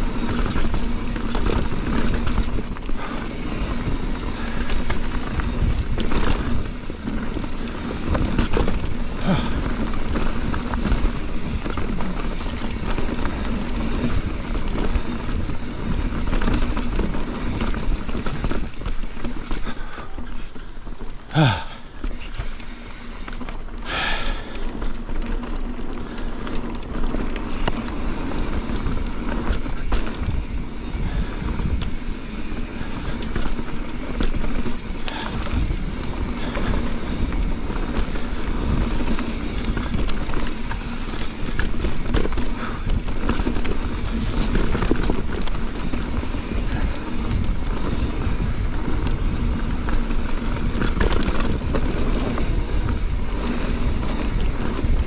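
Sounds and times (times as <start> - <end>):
wind noise on microphone: 0.0 - 20.6, 25.9 - 55.0
bike rattling and knocking: 0.0 - 55.0
tyres on dirt and rock: 0.0 - 55.0.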